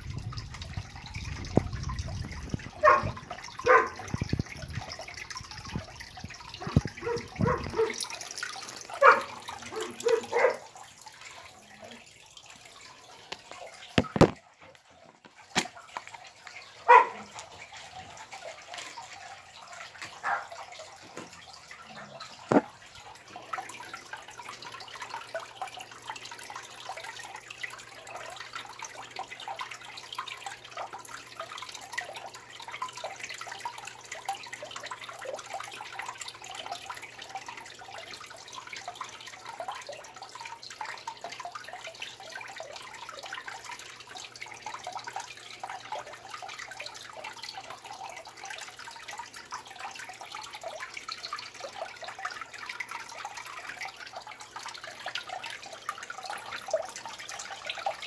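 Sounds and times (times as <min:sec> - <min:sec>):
aquarium water bubbling: 0:00.0 - 0:58.0.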